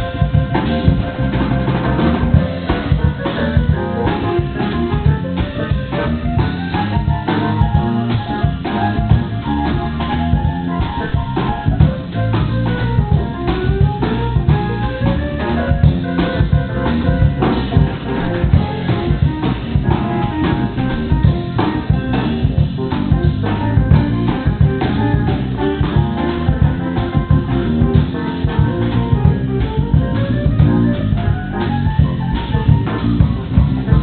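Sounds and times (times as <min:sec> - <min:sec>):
band with drums and guitar: 0:00.0 - 0:34.0.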